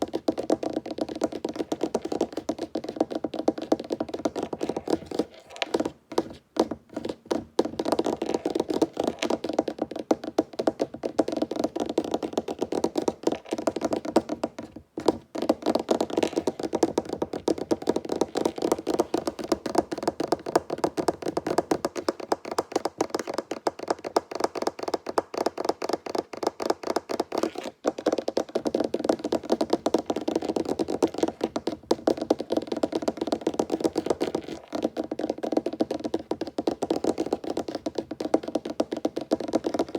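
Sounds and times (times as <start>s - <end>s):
fingertips tapping on wood: 0.0s - 39.9s.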